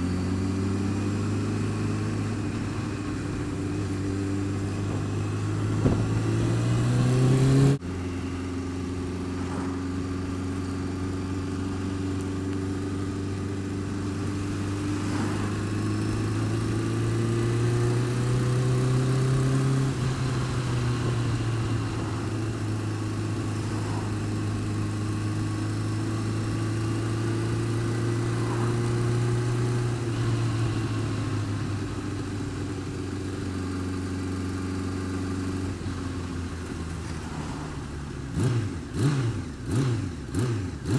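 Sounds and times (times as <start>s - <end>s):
motorcycle engine revving near idle: 0.0s - 40.9s
odd engine noise: 0.0s - 40.9s.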